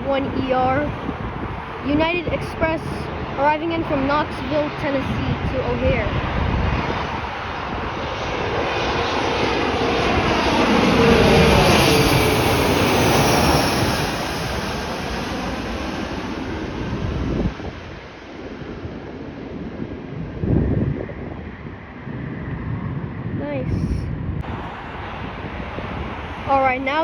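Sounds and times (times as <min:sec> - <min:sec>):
jet engine whine passing: 0:00.0 - 0:27.0.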